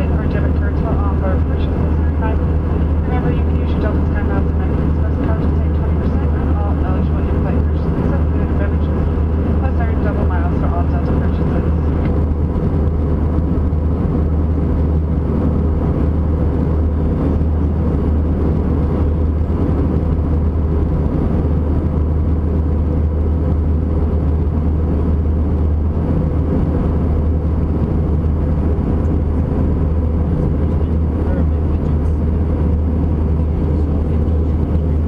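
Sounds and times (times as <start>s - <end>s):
jet engine drone in cabin: 0.0s - 35.0s.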